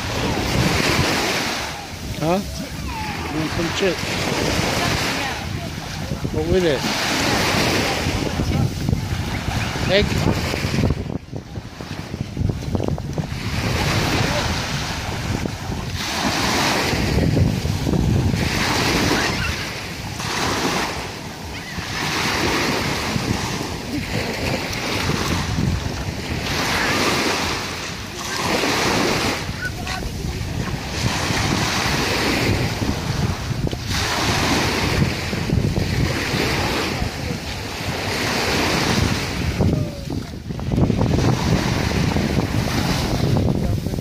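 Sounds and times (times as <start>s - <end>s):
small waves breaking on beach: 0.0s - 44.0s
wind buffeting microphone: 0.0s - 44.0s.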